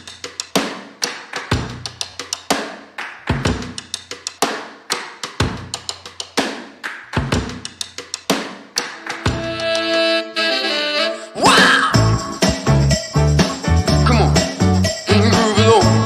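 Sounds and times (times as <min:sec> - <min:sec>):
drum-led beat: 0:00.0 - 0:10.4, 0:11.8 - 0:16.0.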